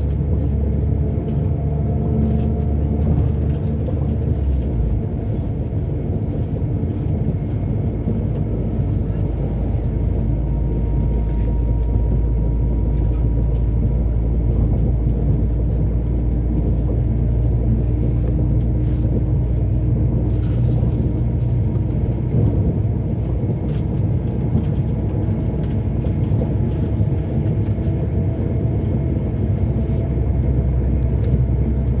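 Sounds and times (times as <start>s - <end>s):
light track clicks: 0.0s - 32.0s
train rumbling on track: 0.0s - 32.0s.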